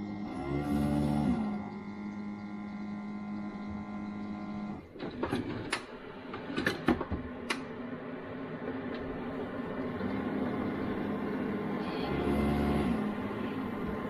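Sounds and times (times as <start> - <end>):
coffee maker humming: 0.0 - 14.0.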